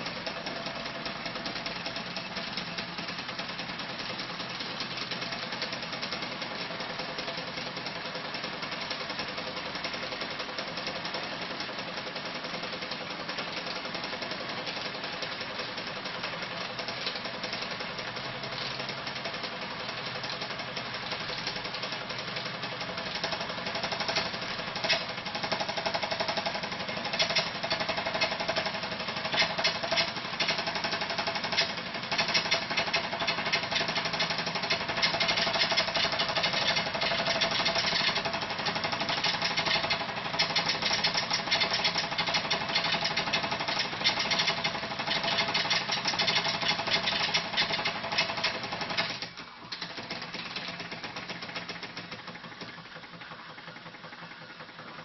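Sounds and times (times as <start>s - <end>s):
toy steam engine clattering: 0.0s - 55.0s.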